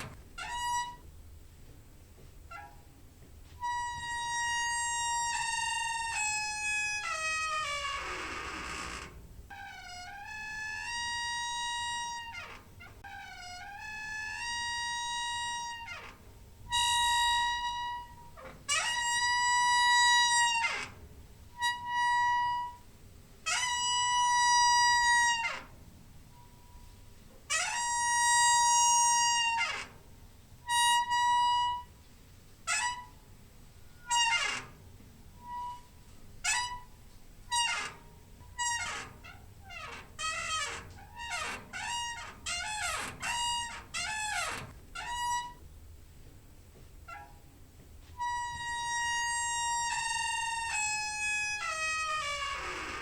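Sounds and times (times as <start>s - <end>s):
door hinge squeaking: 0.0s - 1.2s, 2.4s - 32.0s, 32.6s - 45.8s, 47.0s - 53.0s.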